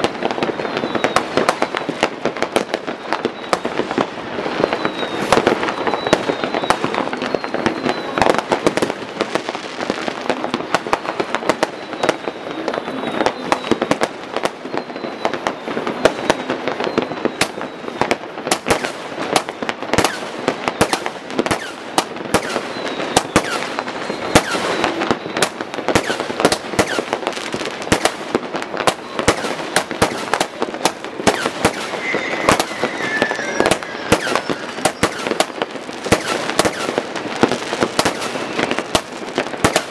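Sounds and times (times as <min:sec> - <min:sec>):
fireworks crackling and banging: 0:00.0 - 0:39.9
high firework whistles: 0:00.0 - 0:39.9.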